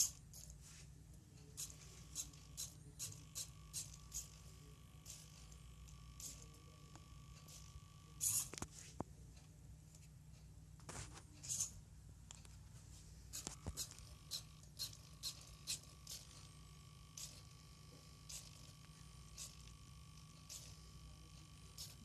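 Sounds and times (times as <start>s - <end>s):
faint low hum: 0.0s - 22.0s
thin steady whine: 0.0s - 22.0s.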